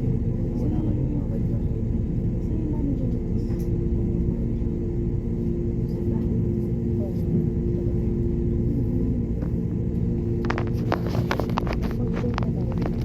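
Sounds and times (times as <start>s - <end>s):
jet engines in cabin: 0.0s - 13.0s.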